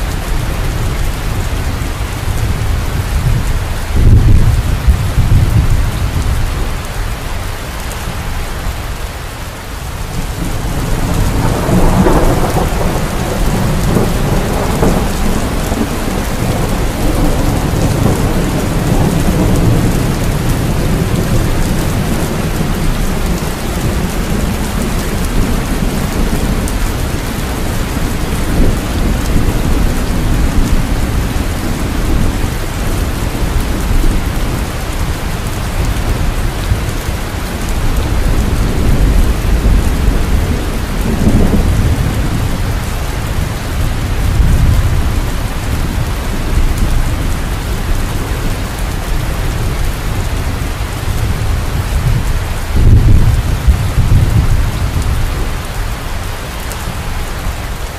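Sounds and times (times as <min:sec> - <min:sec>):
low rolling thunder: 0:00.0 - 0:07.0, 0:10.0 - 0:57.9
heavy rain: 0:00.0 - 0:57.9.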